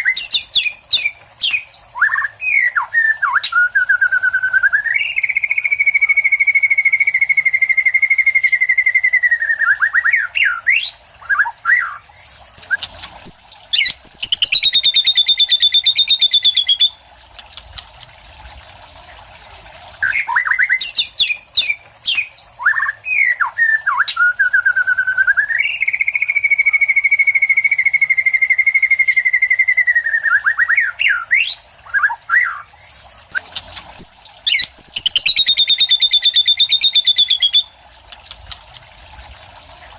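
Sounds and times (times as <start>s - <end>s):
bird singing rattling trills: 0.0s - 4.1s, 4.7s - 17.0s, 20.0s - 24.7s, 25.3s - 37.7s
bird song phrases: 0.0s - 17.0s, 20.0s - 37.7s.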